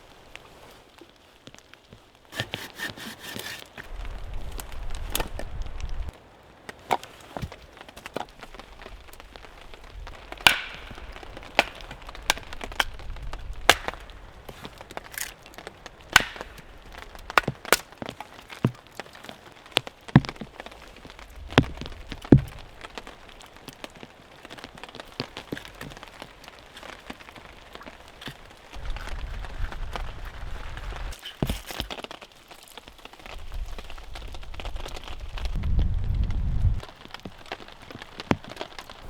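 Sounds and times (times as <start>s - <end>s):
rain pattering: 0.0s - 2.4s, 3.8s - 31.2s, 31.8s - 39.0s
wood cracking and snapping: 0.0s - 39.0s.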